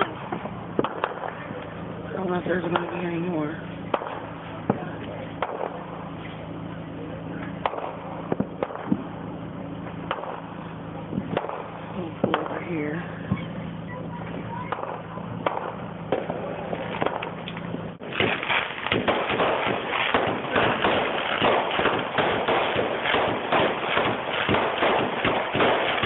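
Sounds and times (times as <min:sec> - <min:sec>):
fireworks popping: 0:00.0 - 0:01.8, 0:02.4 - 0:06.6, 0:07.3 - 0:26.0
car engine hum: 0:00.0 - 0:26.0.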